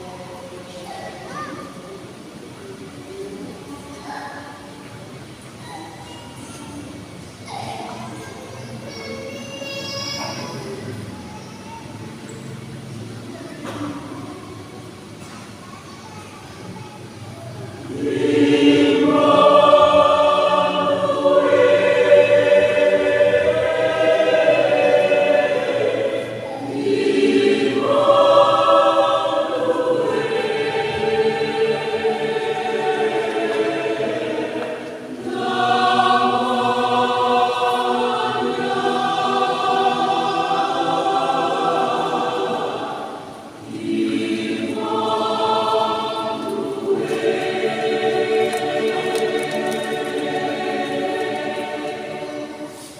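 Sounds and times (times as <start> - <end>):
youth choir singing: 0.0 - 8.6, 16.6 - 52.9.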